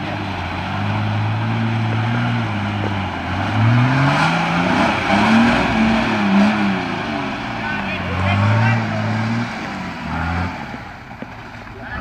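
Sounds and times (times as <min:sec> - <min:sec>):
truck engine revving in mud: 0:00.0 - 0:12.0.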